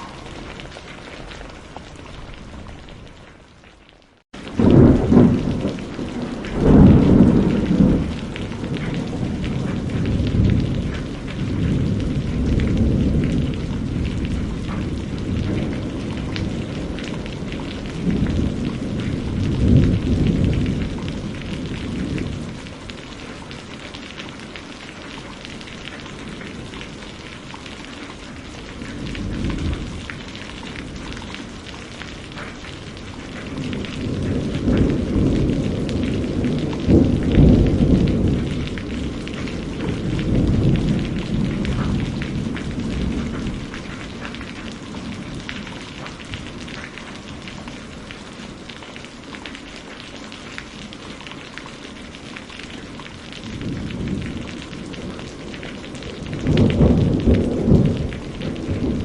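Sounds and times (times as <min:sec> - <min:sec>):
steady rain: 0:00.0 - 0:59.0
rolling thunder: 0:04.4 - 0:24.8, 0:25.4 - 0:48.7, 0:53.1 - 0:59.0.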